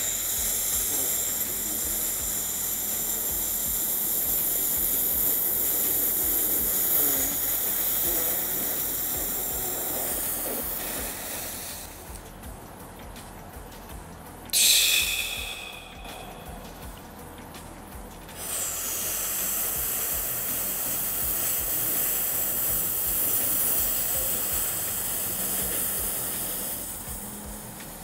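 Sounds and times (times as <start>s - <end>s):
slow hissing inhalation: 0.0s - 12.2s, 14.5s - 16.8s, 18.3s - 28.0s.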